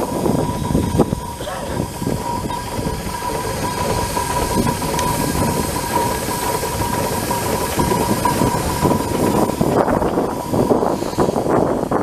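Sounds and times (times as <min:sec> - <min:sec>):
plough rattling and clanking: 0:00.0 - 0:12.0
steady high whine: 0:00.0 - 0:12.0.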